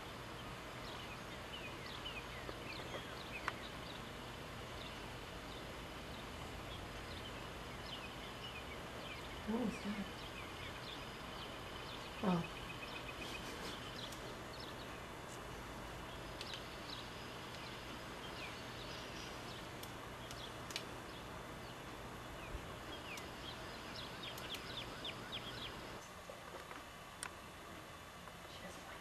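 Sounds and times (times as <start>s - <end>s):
small birds chirping: 0.0s - 29.0s
steady low hum: 0.0s - 29.0s.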